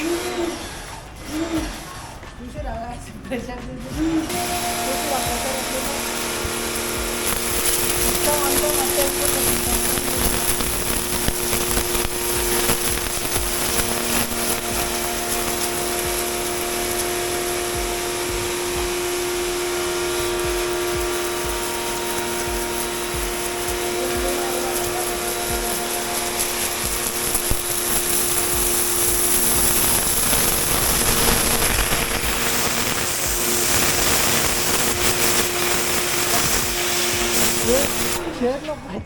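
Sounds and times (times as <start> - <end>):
pressure washer motor hum: 0.0 - 2.4, 3.9 - 39.0
water jet hissing: 4.0 - 38.9.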